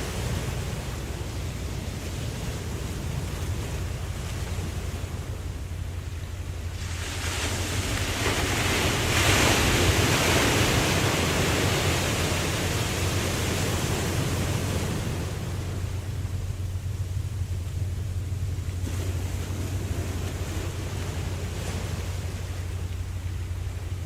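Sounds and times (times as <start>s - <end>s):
low rumble of surf: 0.0s - 24.0s
ocean wave breaking: 0.0s - 24.0s.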